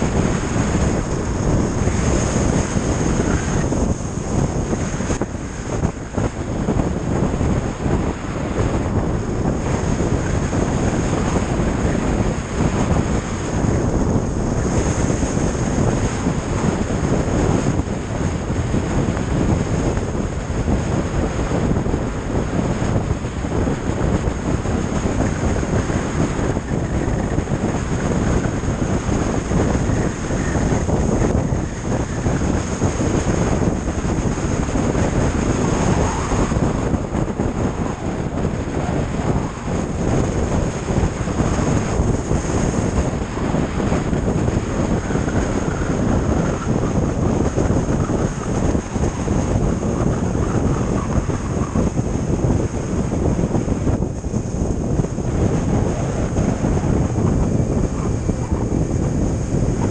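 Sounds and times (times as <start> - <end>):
motorcycle running: 0.0 - 59.9
wind buffeting microphone: 0.0 - 59.9.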